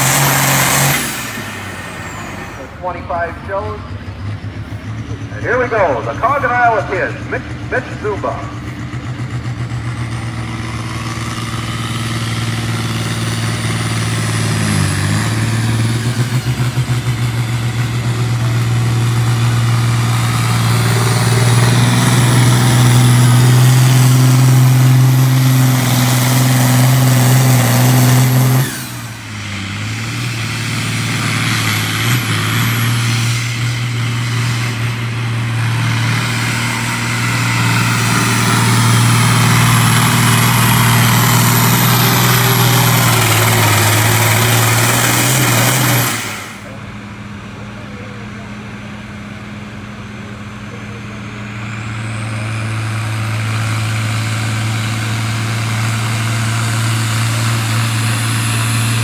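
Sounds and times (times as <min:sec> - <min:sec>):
diesel tractor engine under load: 0:00.0 - 0:59.0.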